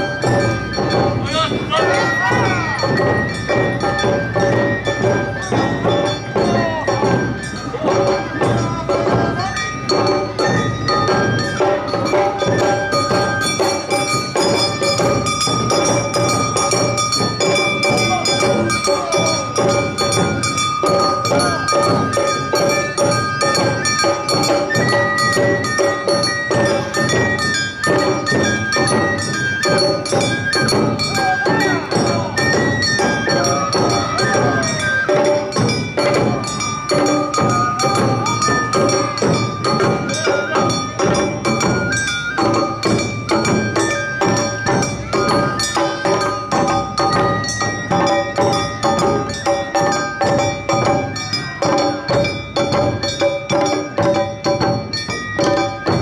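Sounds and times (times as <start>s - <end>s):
bamboo flute melody: 0.0s - 56.0s
steady drum strokes: 0.0s - 56.0s
ringing hand gong: 8.0s - 56.0s.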